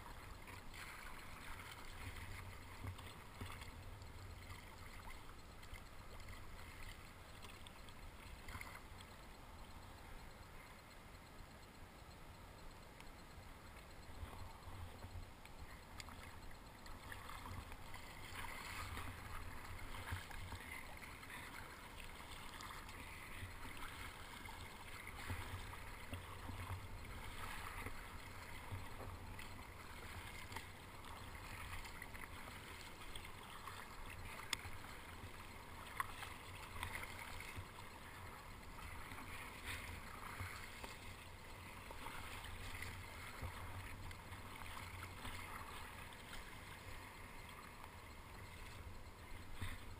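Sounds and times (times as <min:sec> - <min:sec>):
water splashing against kayak hull: 0:00.0 - 0:09.4, 0:13.7 - 0:49.9.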